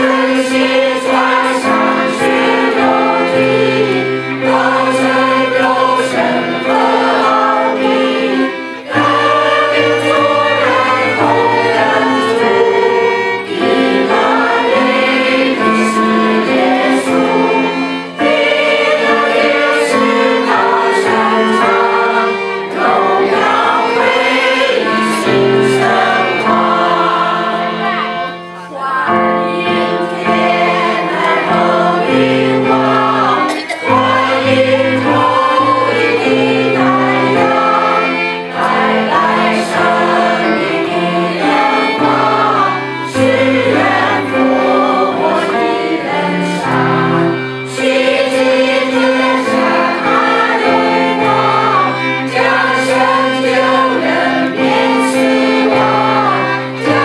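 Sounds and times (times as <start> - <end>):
mixed choir singing a carol: 0.0 - 57.0
violins and cello: 0.0 - 57.0.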